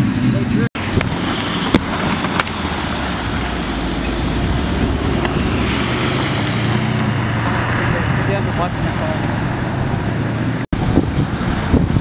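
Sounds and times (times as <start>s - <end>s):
car engine running: 0.0s - 11.8s
wind on microphone: 0.8s - 12.0s.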